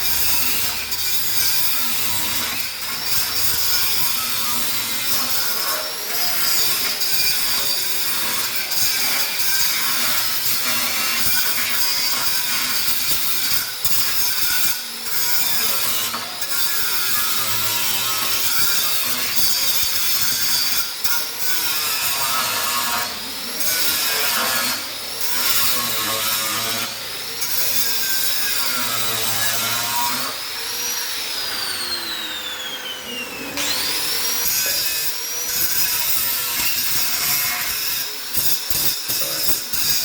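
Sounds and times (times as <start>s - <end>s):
angle grinder on sheet steel: 0.0s - 40.0s.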